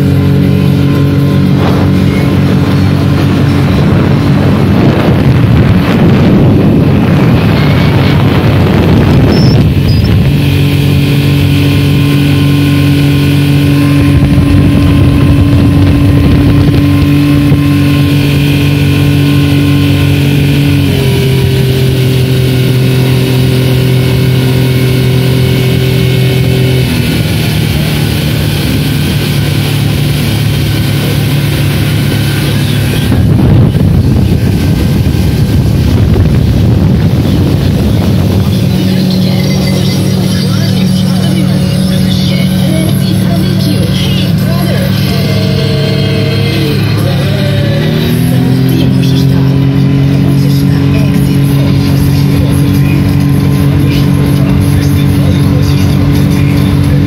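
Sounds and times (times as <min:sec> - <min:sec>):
outboard motor running: 0:00.0 - 0:57.0
water rushing and splashing: 0:00.0 - 0:57.0
wind: 0:00.0 - 0:57.0.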